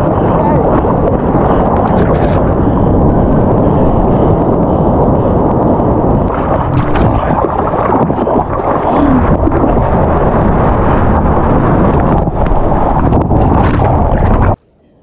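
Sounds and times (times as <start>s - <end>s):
sea water rushing and splashing: 0.0s - 14.6s
wind buffeting microphone: 0.0s - 14.6s.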